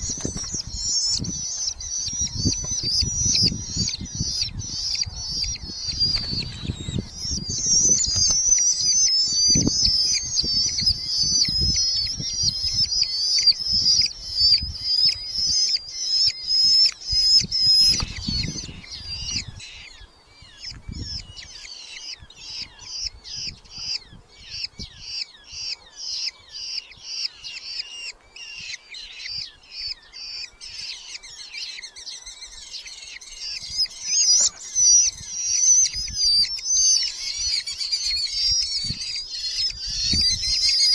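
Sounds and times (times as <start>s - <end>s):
falcon chicks calling: 0.0s - 40.9s.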